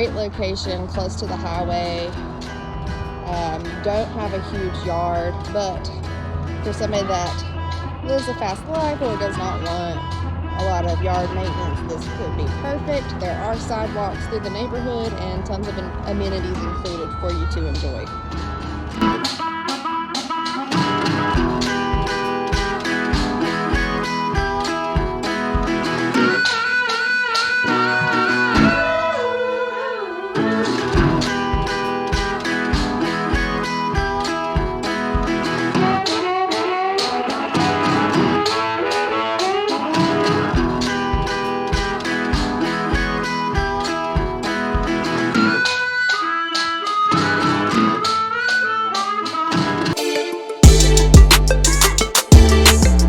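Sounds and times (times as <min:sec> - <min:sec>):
fiddle: 0:00.0 - 0:52.9
guitar instrumental music with beat: 0:00.0 - 0:53.0.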